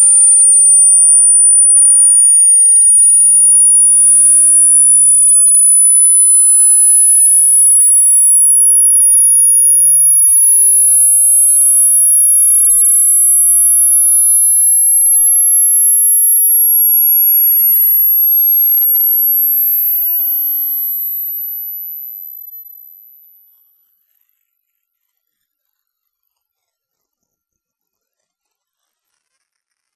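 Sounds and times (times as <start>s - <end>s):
high-pitched electronic sine tone: 0.0s - 29.9s.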